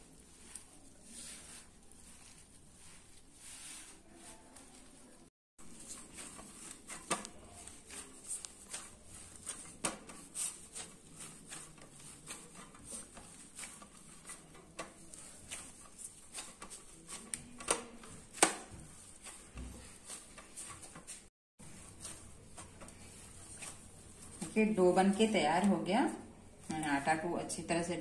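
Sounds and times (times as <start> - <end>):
dough squishing on steel plate: 0.0 - 27.5.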